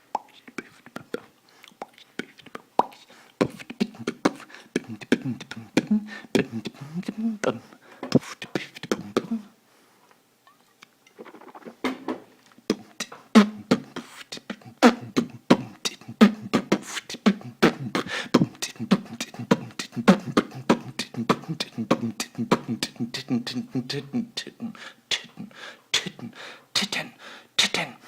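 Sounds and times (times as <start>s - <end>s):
beatboxing: 0.0s - 9.5s, 12.7s - 28.0s.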